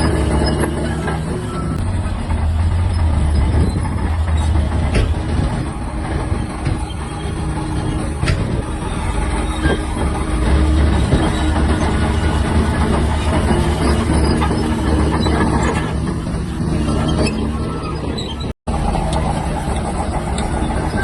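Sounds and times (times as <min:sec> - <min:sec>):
bulldozer diesel engine rumbling: 0:00.0 - 0:21.0.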